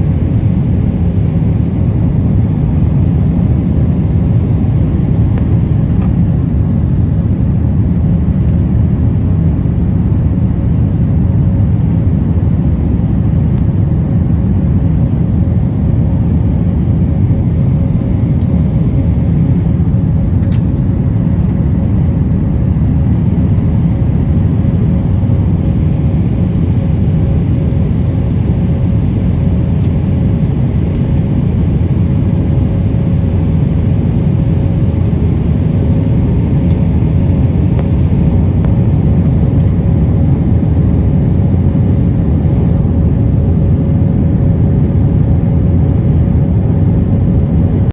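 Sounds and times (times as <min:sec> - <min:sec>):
jet engine rumble in cabin: 0:00.0 - 0:47.9.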